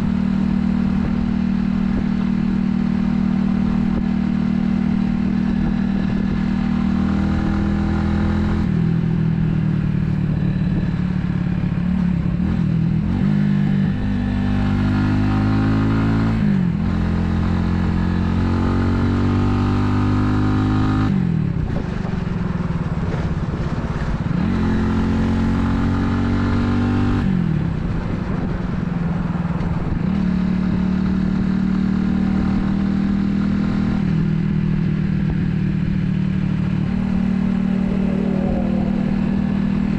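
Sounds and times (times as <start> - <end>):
motorcycle engine accelerating: 0.0 - 39.9
road noise: 0.0 - 39.9
wind noise: 0.0 - 39.9.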